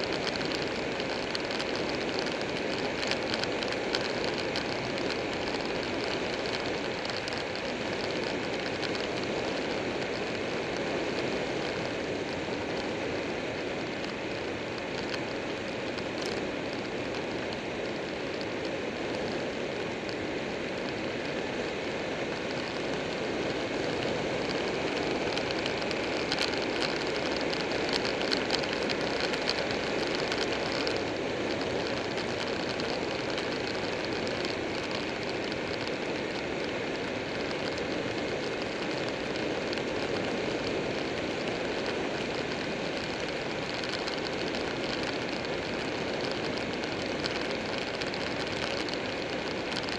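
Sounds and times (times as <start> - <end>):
crackling wind buffeting: 0.0 - 49.9
wind and road noise: 0.0 - 49.9.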